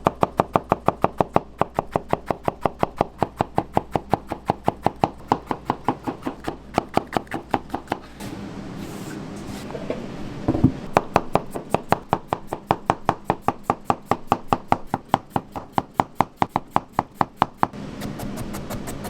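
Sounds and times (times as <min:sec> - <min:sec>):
knife chopping on a cutting board: 0:00.0 - 0:08.2, 0:10.5 - 0:19.0.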